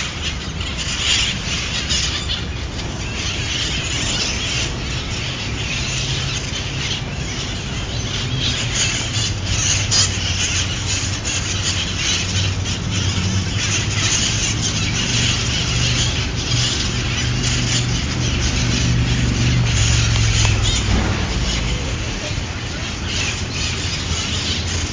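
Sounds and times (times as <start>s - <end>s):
parrots screeching and squawking: 0.0s - 24.9s.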